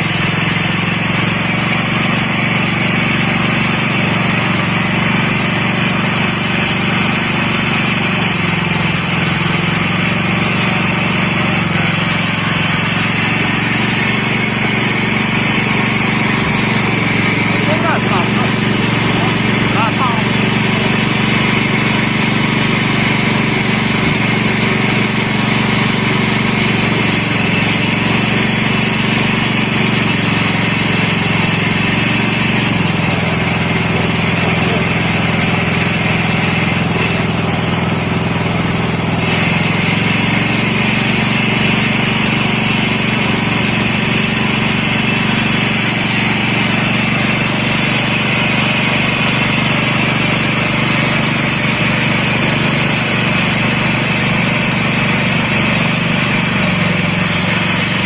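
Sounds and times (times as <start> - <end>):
fish grinding machine motor drone: 0.0 - 58.0.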